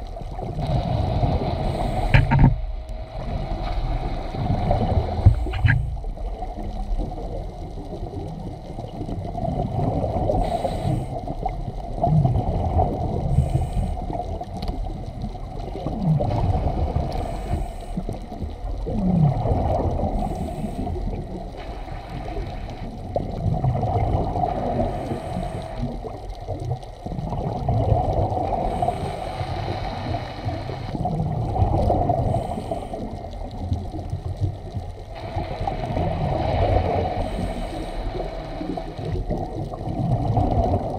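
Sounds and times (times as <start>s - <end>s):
underwater scuba breathing and bubbles: 0.0s - 40.9s.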